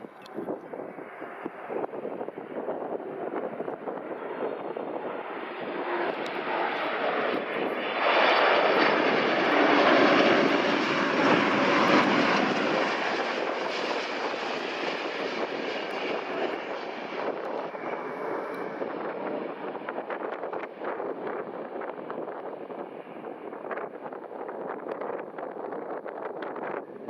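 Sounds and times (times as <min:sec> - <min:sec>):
jet aircraft engine rush: 0:00.3 - 0:27.0.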